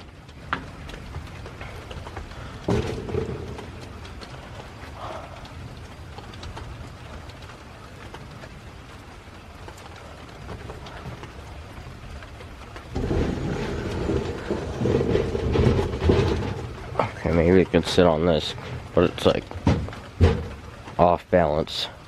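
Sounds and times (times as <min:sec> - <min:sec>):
low rumbling noise: 0:00.0 - 0:22.0
steady rain falling: 0:00.0 - 0:22.0.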